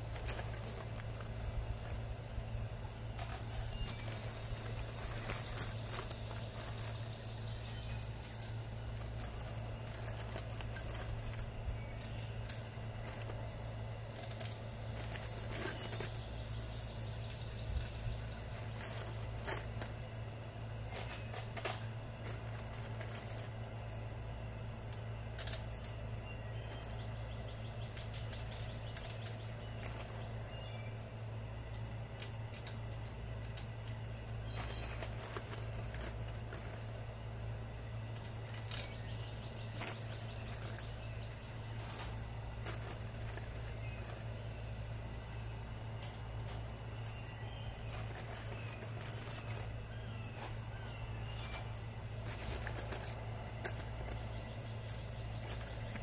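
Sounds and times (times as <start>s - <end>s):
screws clinking on wire mesh: 0.0s - 2.5s, 3.1s - 16.3s, 16.9s - 20.1s, 20.9s - 24.1s, 24.9s - 30.6s, 31.7s - 37.0s, 38.1s - 56.0s
low hum: 0.0s - 56.0s.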